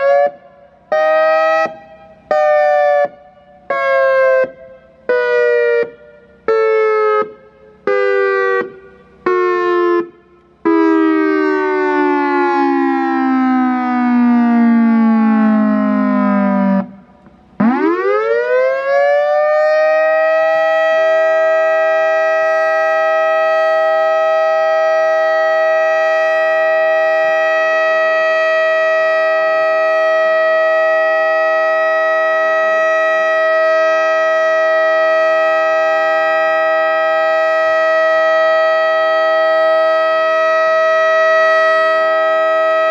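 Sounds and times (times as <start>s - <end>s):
outdoor warning siren: 0.0s - 42.9s.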